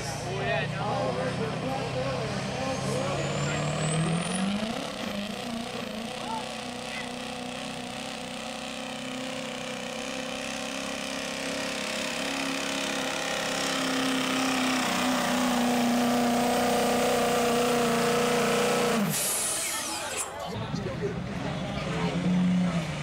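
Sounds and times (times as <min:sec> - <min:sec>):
diesel truck engine under load: 0:00.0 - 0:23.0.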